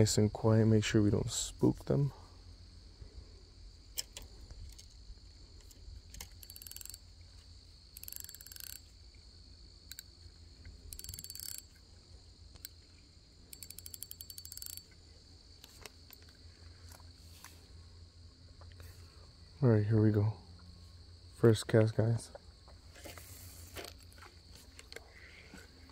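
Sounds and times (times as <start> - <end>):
buzzy insect calls: 0.0 - 25.9
insects chirping: 0.0 - 25.9.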